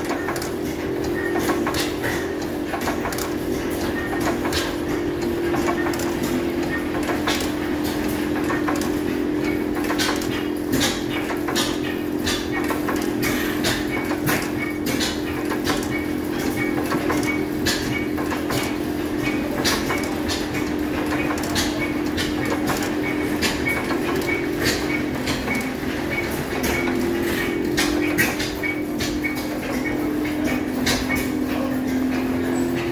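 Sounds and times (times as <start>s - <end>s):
stationary engines popping: 0.0s - 32.9s.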